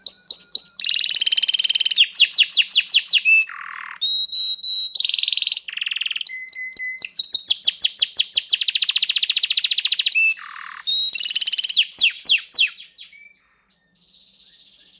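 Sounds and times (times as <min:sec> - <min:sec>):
canary singing: 0:00.0 - 0:14.9.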